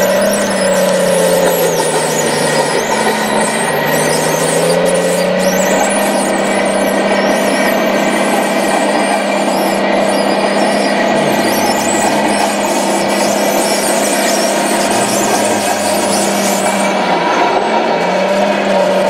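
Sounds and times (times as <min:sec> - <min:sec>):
model bulldozer mechanical whine: 0:00.0 - 0:19.0.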